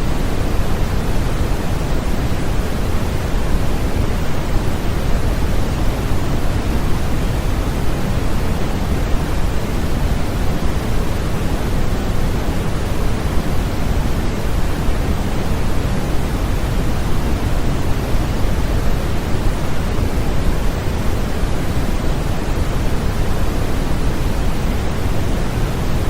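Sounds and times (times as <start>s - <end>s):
steady white noise hiss: 0.0s - 26.0s.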